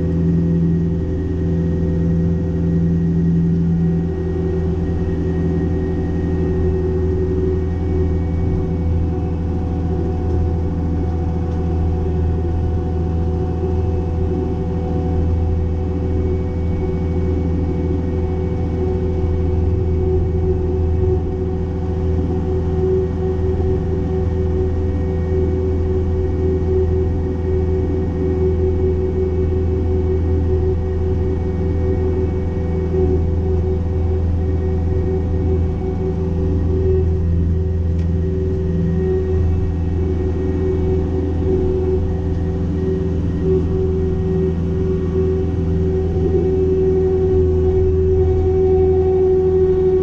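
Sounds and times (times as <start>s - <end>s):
diesel engine droning under load: 0.0s - 50.0s.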